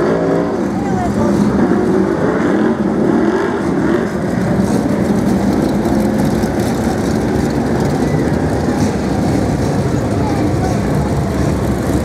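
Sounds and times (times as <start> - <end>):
racing car engines roaring: 0.0 - 12.0.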